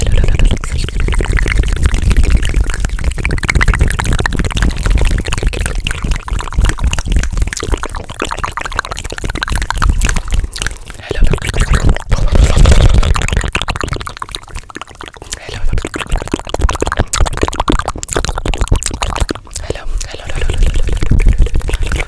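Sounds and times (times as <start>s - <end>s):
mouth clicks and smacks: 0.0s - 22.0s.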